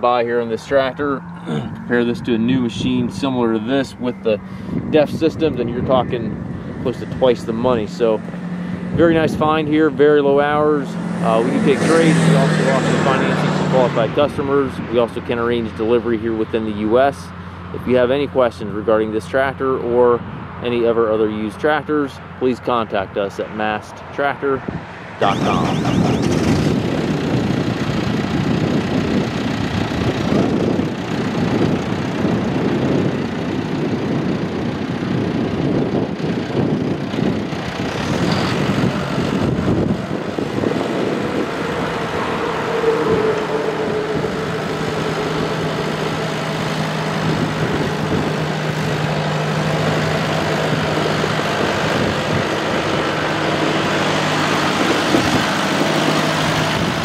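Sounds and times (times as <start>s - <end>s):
tractor diesel engine running: 0.0s - 18.2s, 25.2s - 57.0s.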